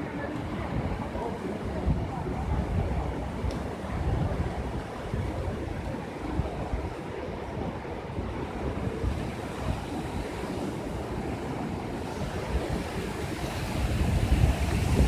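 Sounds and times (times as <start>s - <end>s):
rushing surging water: 0.0s - 15.0s
wind buffeting microphone: 0.0s - 15.0s.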